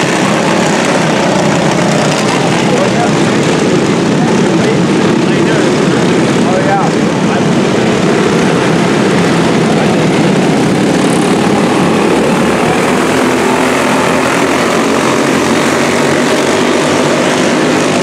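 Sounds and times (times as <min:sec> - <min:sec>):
small race car engines buzzing: 0:00.0 - 0:18.0.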